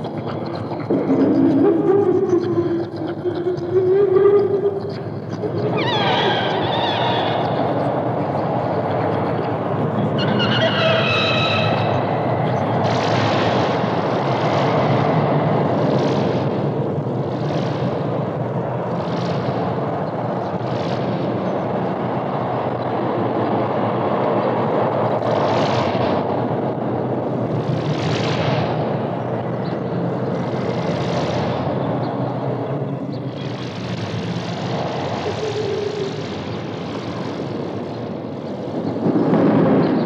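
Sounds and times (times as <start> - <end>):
dense hissy noise music: 0.0 - 40.0.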